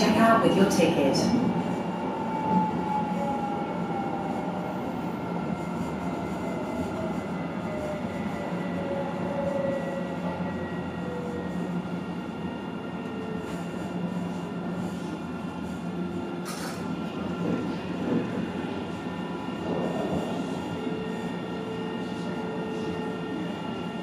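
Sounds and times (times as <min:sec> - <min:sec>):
tram running rumble: 0:00.0 - 0:24.0.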